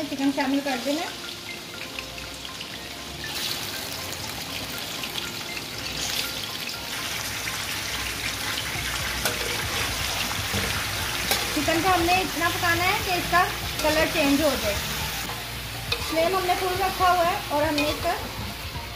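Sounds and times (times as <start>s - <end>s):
chicken sizzling in hot oil: 0.0s - 18.9s.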